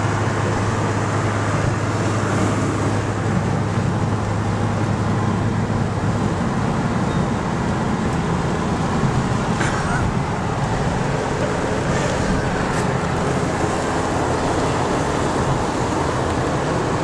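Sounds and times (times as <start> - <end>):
car engine drone: 0.0 - 17.0
tyre and wind noise: 0.0 - 17.0.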